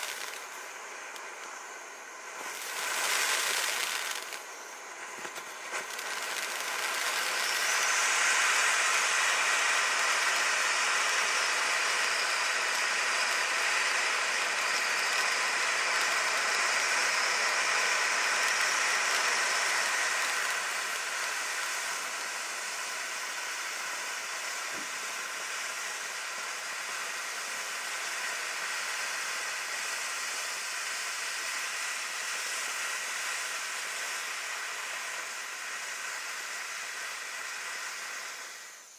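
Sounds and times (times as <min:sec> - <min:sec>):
firework fountain hissing: 0:00.0 - 0:38.9.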